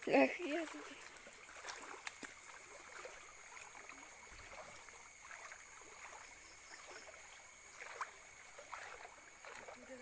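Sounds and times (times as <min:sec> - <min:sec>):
river flowing: 0:00.0 - 0:10.0
water trickling: 0:00.0 - 0:10.0.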